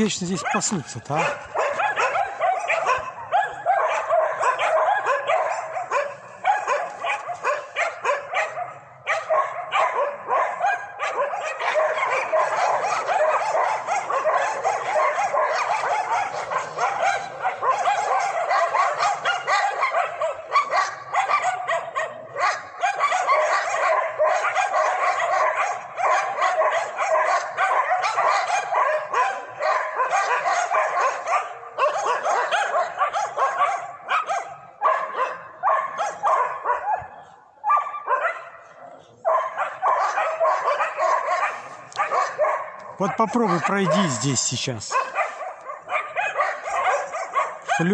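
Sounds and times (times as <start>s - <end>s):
dogs barking and yipping: 0.0s - 47.9s.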